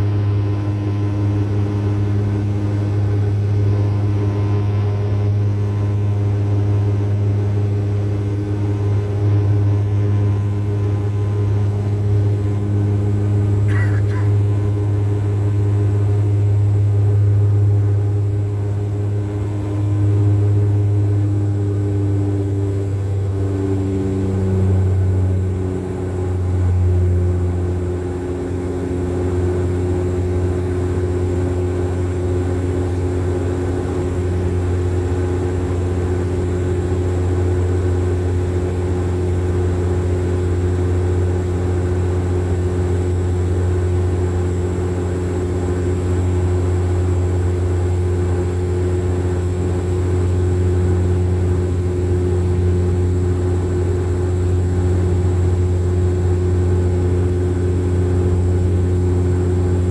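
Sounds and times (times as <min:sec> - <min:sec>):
propeller drone in aircraft cabin: 0:00.0 - 0:59.9.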